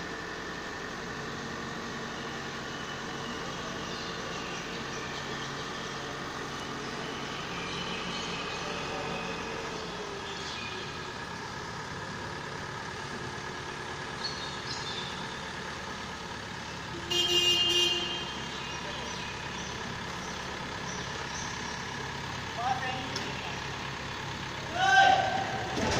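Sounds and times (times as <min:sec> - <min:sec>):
crane engine humming: 0:00.0 - 0:25.9.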